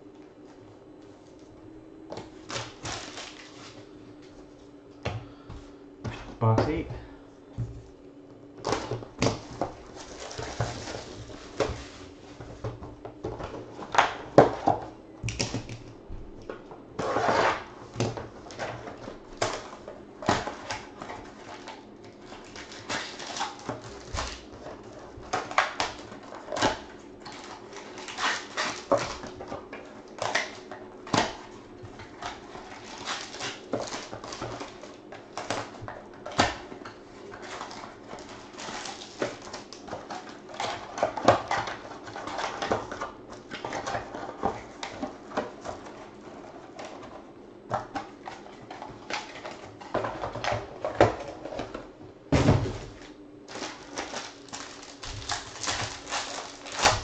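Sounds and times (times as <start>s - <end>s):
foil and plastic crinkling: 2.2s - 5.5s, 8.6s - 57.0s.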